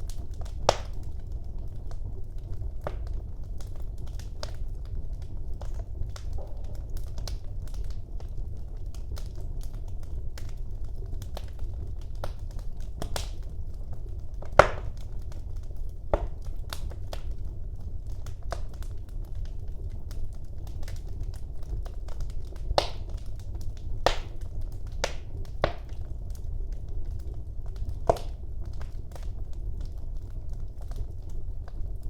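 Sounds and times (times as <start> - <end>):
low rumble of flames: 0.0 - 32.0
wood fire crackles and pops: 0.0 - 32.0.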